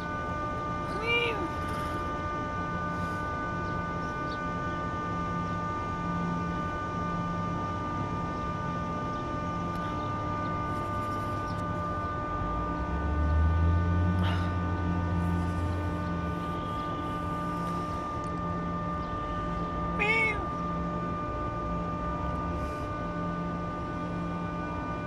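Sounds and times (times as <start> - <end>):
mechanical whine and hum: 0.0 - 25.0.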